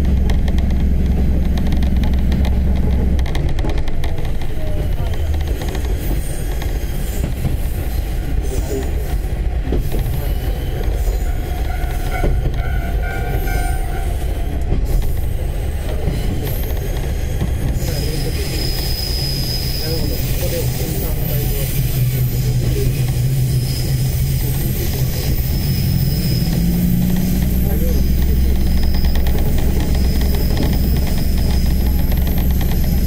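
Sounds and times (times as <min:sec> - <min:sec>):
diesel engine and wheels rumbling: 0:00.0 - 0:33.0.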